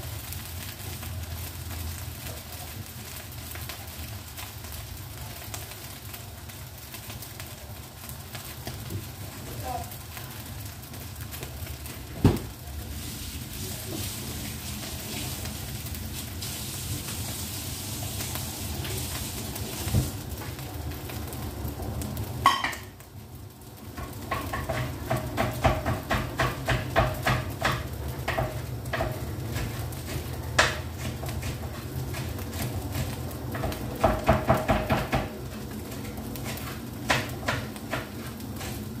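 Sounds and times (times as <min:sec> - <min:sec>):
rice sizzling in a wok: 0:00.0 - 0:39.0.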